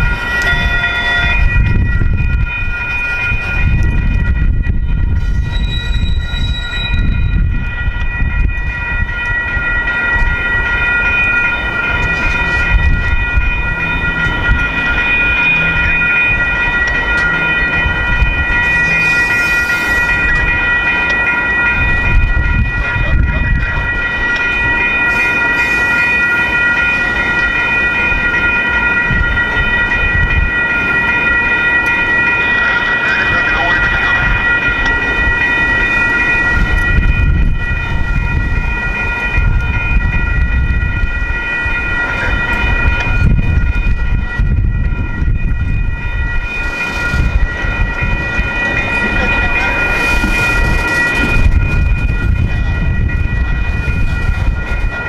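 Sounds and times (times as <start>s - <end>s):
railroad crossing bells ringing: 0.0s - 55.0s
train wheels rumbling and clattering: 0.0s - 55.0s.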